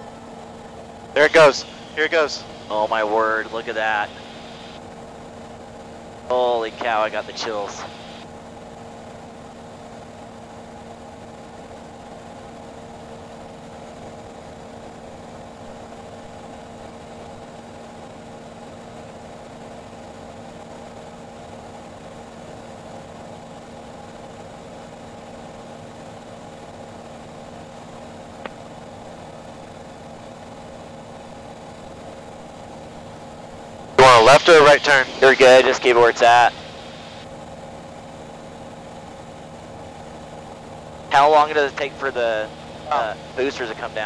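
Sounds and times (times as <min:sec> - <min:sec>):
propeller plane engine droning: 0:00.0 - 0:44.0.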